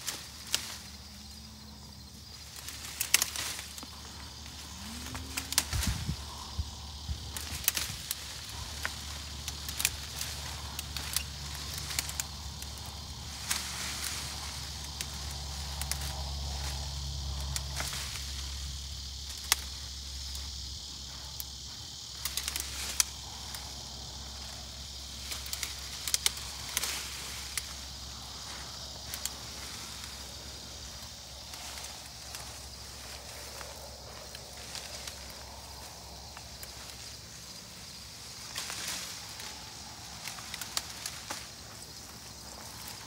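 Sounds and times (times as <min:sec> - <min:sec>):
twigs cracking and snapping: 0:00.0 - 0:01.0, 0:02.3 - 0:37.1, 0:38.3 - 0:43.0
high insect drone: 0:00.0 - 0:43.0
leafy branches rustling: 0:00.0 - 0:43.0.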